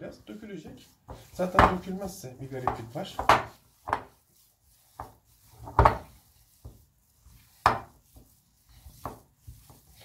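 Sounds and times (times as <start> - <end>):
hands squishing thick paste: 0.3 - 10.0.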